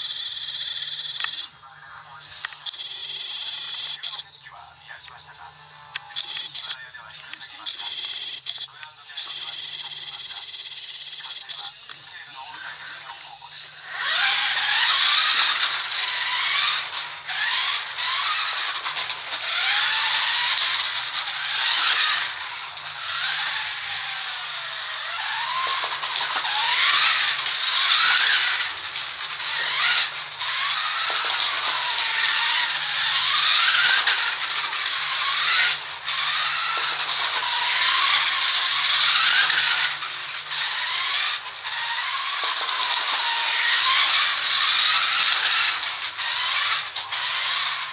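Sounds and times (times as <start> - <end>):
rc car motor whining: 0.0 - 47.9
tyres and drivetrain hiss: 0.0 - 47.9.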